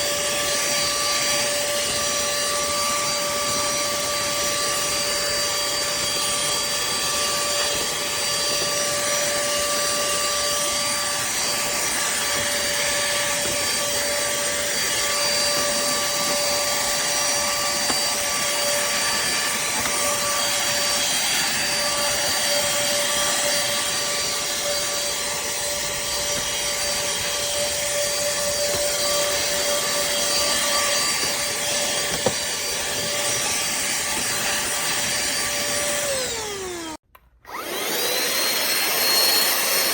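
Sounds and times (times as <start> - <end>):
handheld vacuum cleaner running: 0.0 - 39.9.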